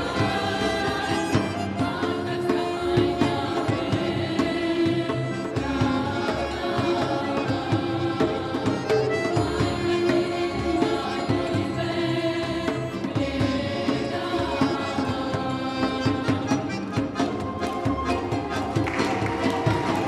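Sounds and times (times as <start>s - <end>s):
mixed choir singing folk song: 0.0s - 20.0s.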